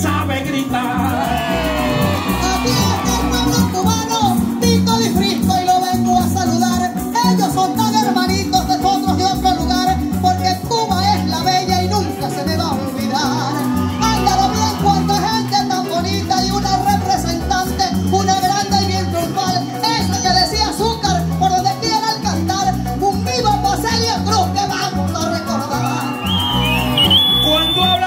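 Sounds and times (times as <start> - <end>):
band playing instrumental: 0.0 - 28.0.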